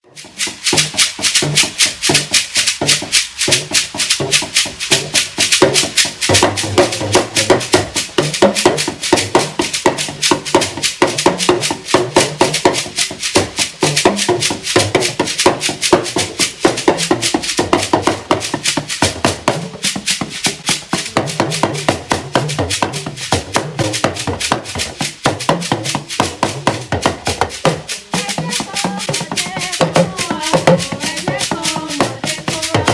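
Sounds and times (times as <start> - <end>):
shaker rhythm: 0.0 - 32.9
drums: 0.1 - 32.9.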